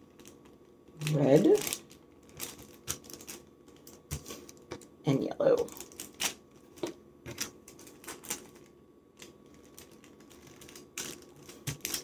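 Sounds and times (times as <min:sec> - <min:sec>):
paper crinkling: 0:00.0 - 0:04.9, 0:05.5 - 0:12.0.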